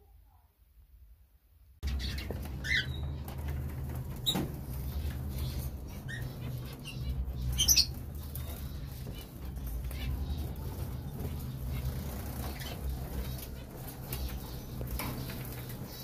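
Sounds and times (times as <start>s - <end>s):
lovebirds chirping: 1.8s - 16.0s.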